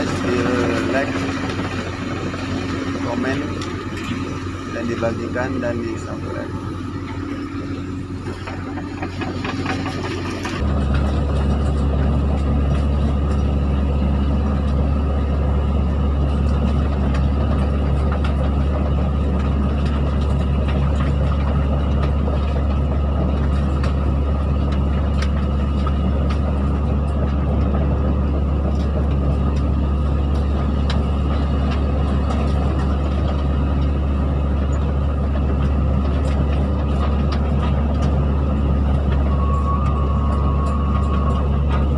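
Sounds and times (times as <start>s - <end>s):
excavator diesel engine: 0.0s - 41.9s.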